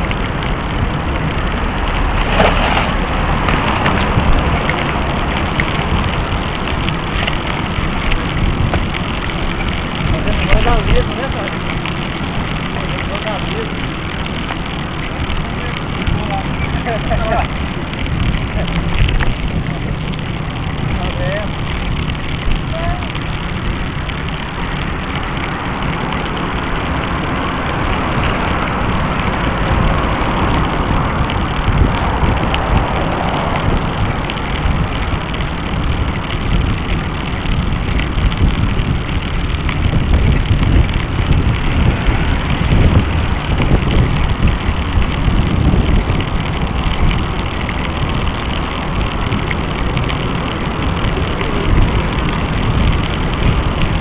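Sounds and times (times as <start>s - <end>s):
bicycle tyre road noise: 0.0s - 54.0s
wind buffeting microphone: 0.0s - 54.0s.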